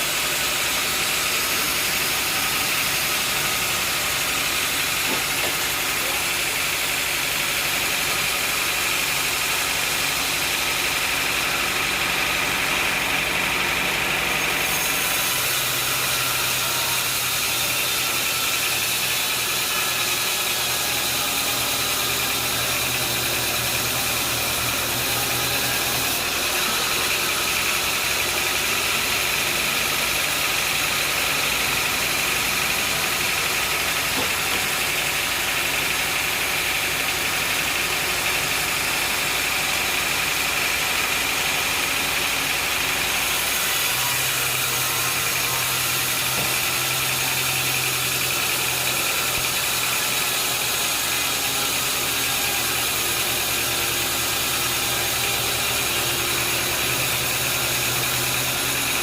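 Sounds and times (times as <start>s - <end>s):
sawmill machinery engine drone: 0.0s - 59.0s.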